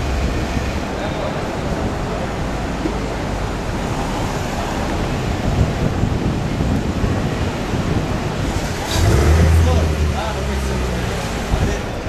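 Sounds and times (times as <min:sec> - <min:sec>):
street traffic noise: 0:00.0 - 0:12.0
wind rumbling on microphone: 0:00.0 - 0:12.0.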